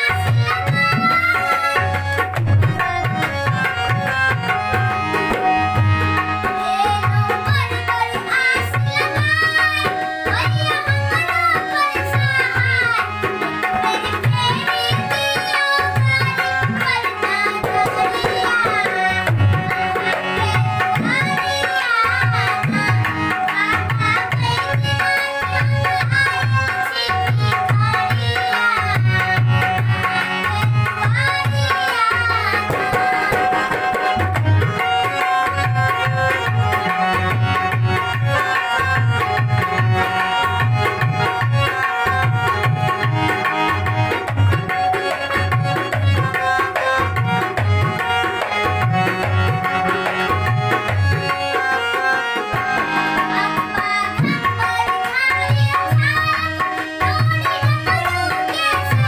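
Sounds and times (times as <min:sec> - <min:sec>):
boy singing devotional song: 0:00.0 - 0:59.0
harmonium chords: 0:00.0 - 0:59.0.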